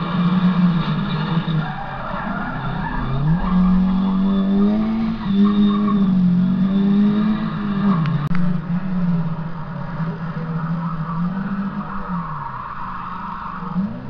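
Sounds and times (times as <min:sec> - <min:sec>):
rally car engine revving high: 0:00.0 - 0:14.0.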